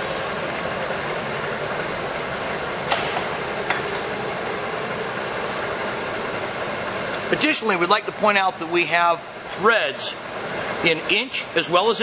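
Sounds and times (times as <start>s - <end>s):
lathe whirring: 0.0s - 12.0s.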